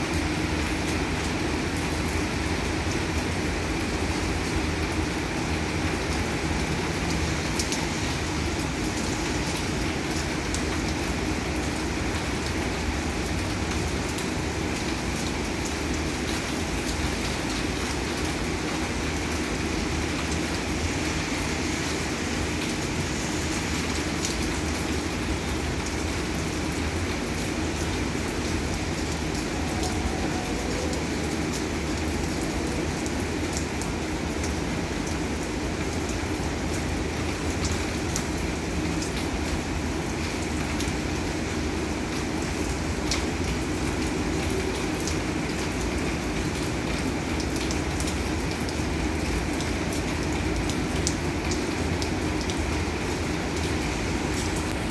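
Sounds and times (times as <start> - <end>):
heavy rain on a roof: 0.0 - 54.9
water running off eaves: 0.0 - 54.9.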